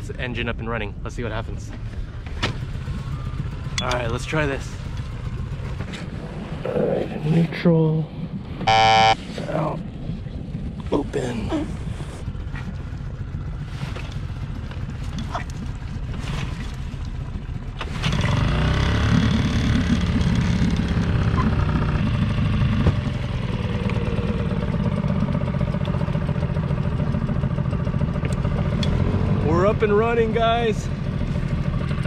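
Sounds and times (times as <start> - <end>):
outboard motor starting and running: 0.0 - 32.0.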